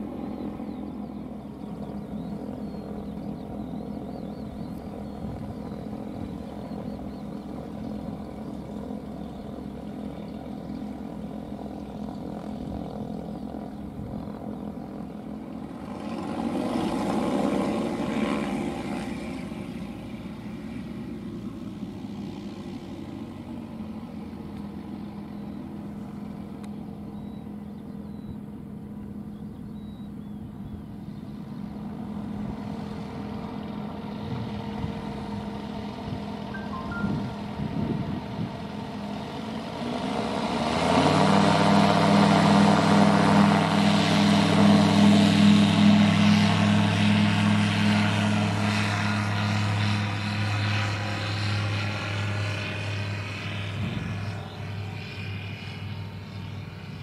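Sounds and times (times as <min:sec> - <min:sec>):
propeller engine humming: 0:00.0 - 0:57.0.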